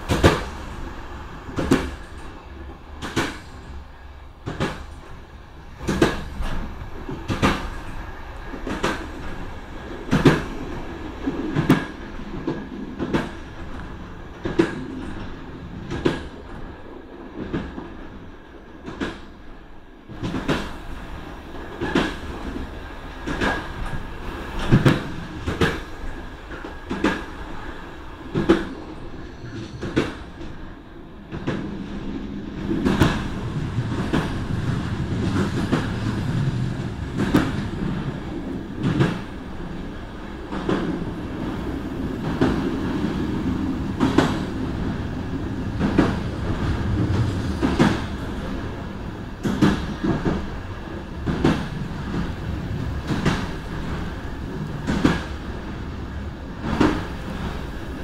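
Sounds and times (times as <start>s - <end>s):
train wheels rumbling on track: 0.0s - 58.0s.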